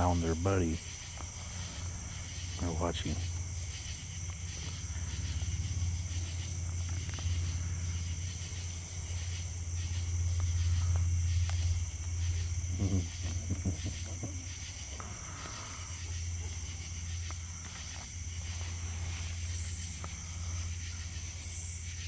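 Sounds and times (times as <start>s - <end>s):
constant low hum: 0.0s - 22.0s
crickets chirping: 0.0s - 22.0s.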